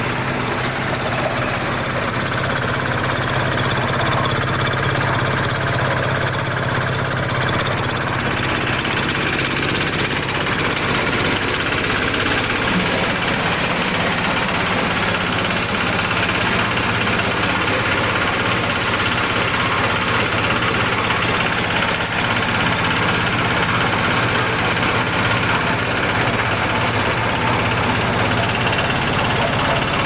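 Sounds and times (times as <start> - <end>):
diesel engine drone: 0.0 - 30.0.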